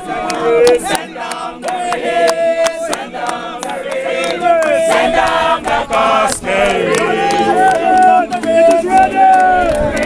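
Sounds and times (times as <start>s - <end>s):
voices singing unaccompanied: 0.0s - 10.0s.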